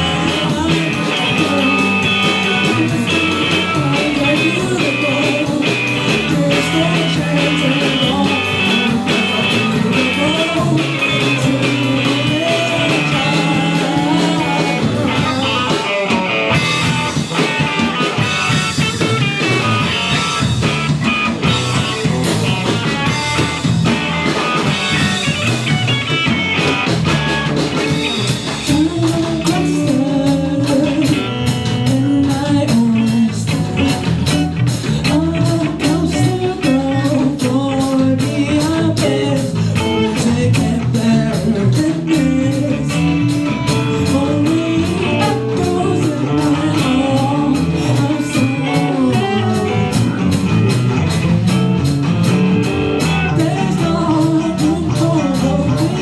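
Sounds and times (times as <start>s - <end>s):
person singing: 0.0s - 20.7s, 27.5s - 51.6s, 52.6s - 56.0s
live rock band playing: 0.0s - 56.0s
steady drum beat: 0.0s - 56.0s.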